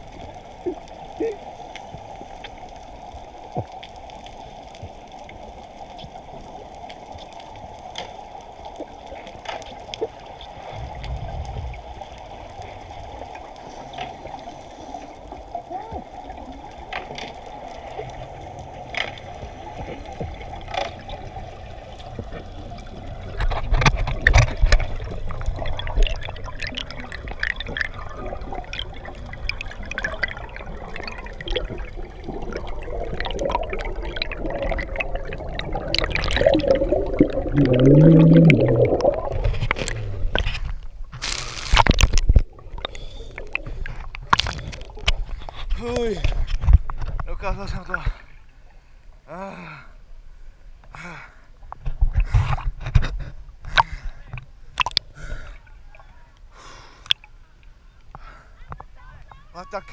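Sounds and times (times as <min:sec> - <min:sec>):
water splashing: 0:00.0 - 0:48.5, 0:52.0 - 0:57.5
underwater bubbling and rushing: 0:00.0 - 0:49.2, 0:51.5 - 0:56.2.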